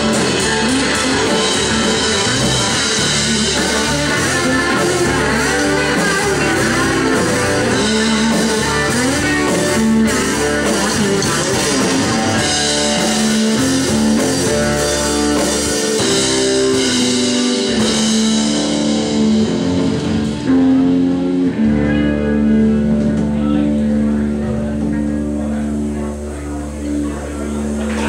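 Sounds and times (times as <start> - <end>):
blues band playing: 0.0 - 28.0
electric guitar lead: 0.0 - 28.0.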